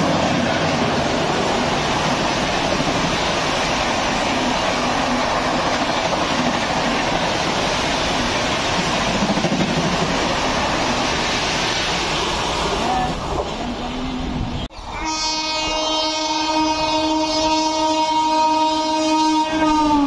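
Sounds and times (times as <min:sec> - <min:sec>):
train wheels rushing on rails: 0:00.0 - 0:20.0.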